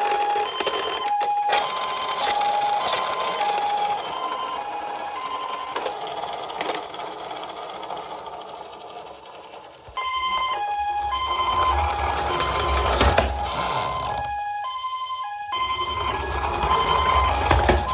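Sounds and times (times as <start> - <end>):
toy electronic two-tone siren: 0.0 - 17.9
rattling whir: 0.9 - 14.6, 15.5 - 17.9.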